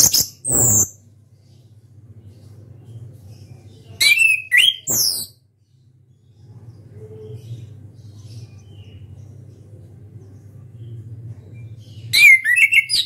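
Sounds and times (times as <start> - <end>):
soft bird chirps: 0.0 - 13.0.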